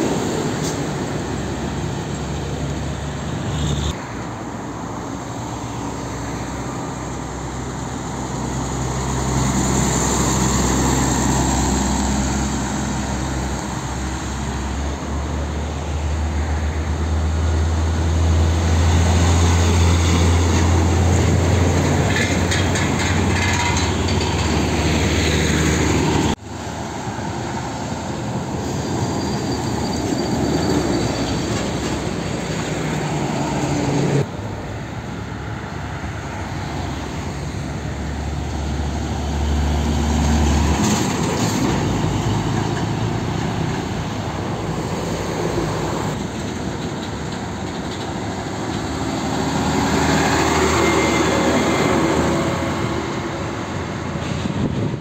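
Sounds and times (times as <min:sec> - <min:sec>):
diesel trucks driving past: 0:00.0 - 0:55.0
tyre and road noise: 0:00.0 - 0:55.0.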